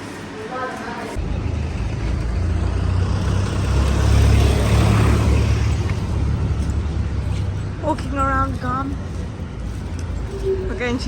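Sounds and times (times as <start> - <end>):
motor vehicle engine rumbling: 1.1 - 11.0.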